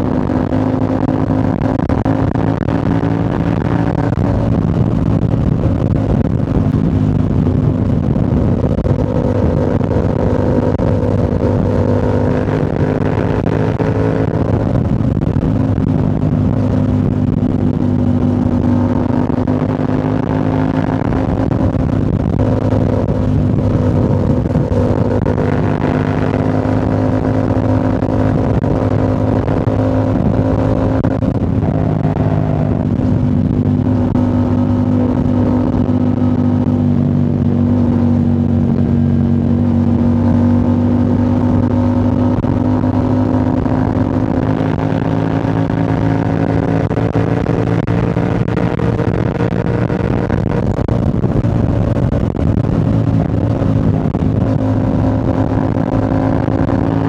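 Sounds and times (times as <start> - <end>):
low rushing noise: 0.0 - 57.0
motorcycle engine cruising: 0.0 - 57.0.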